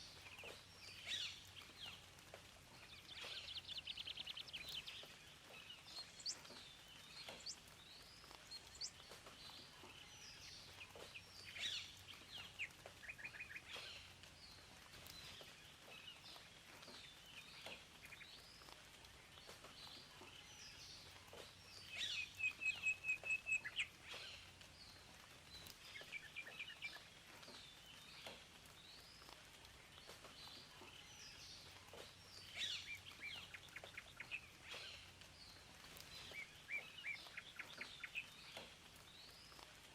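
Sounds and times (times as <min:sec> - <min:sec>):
faint background hiss: 0:00.0 - 0:39.9
songbirds chirping and singing: 0:00.0 - 0:39.9.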